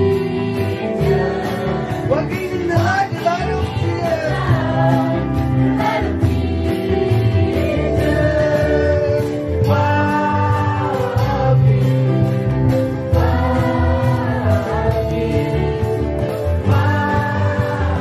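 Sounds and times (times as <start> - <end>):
guitar: 0.0 - 18.0
keyboard: 0.0 - 18.0
people singing together: 0.0 - 18.0.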